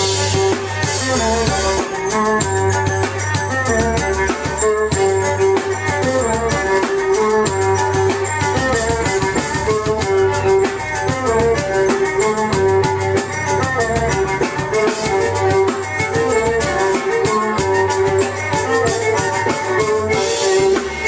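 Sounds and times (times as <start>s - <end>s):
fast drum beat: 0.0s - 21.0s
keyboard bass part: 0.0s - 21.0s
violin melody: 0.0s - 21.0s.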